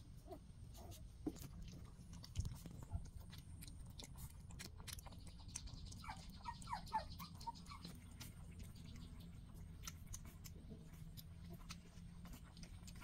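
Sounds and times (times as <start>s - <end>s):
puppies lapping milk: 0.1s - 13.0s.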